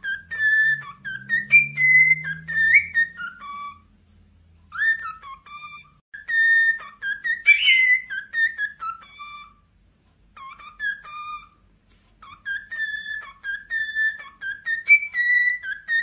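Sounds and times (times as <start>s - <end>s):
cockatiel whistling: 0.0s - 4.0s, 4.7s - 9.7s, 10.3s - 16.0s.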